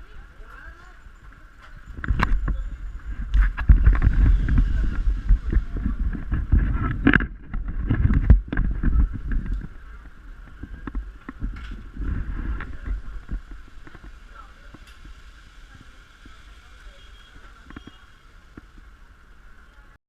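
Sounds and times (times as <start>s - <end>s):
wind buffeting microphone: 0.0s - 19.6s.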